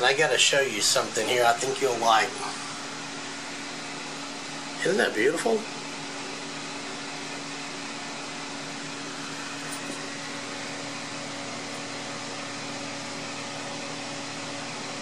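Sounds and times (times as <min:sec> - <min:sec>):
cooling fan whirring: 0:00.0 - 0:15.0
steady low hum: 0:00.0 - 0:15.0.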